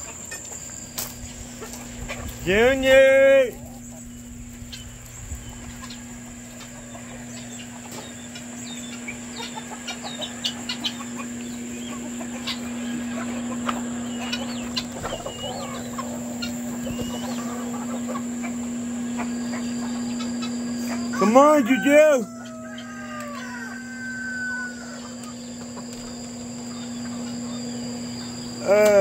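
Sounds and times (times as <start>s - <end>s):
chickens clucking and chirping: 0.0s - 29.0s
steady low hum: 0.0s - 29.0s.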